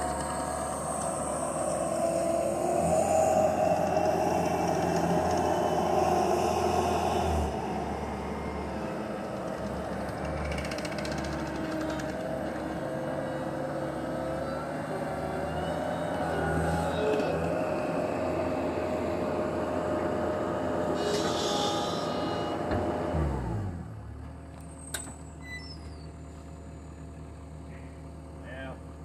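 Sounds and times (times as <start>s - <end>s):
loader engine running: 0.0s - 29.0s.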